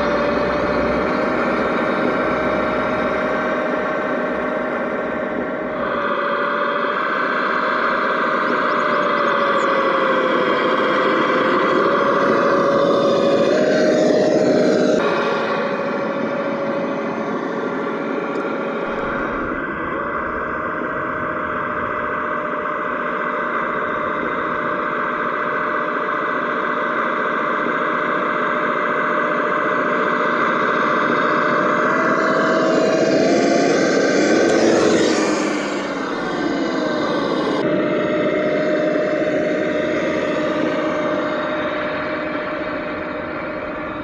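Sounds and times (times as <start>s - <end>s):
simulated engine drone from speakers: 0.0s - 44.0s.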